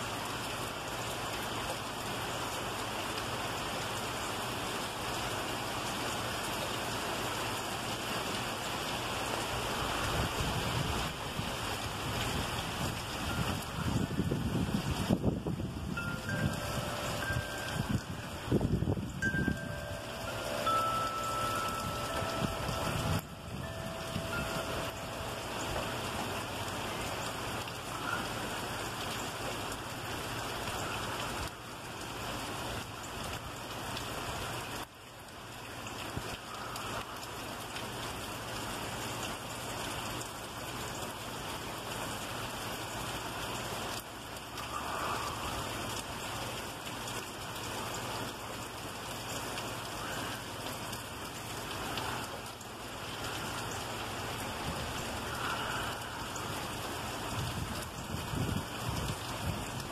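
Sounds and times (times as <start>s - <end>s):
heavy rain pouring: 0.0s - 59.9s
wind: 0.0s - 59.9s.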